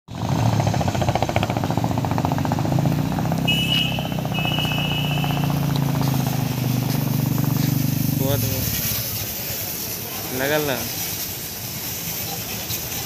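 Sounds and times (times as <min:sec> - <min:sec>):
pressure washer pulsing rumble: 0:00.1 - 0:13.0.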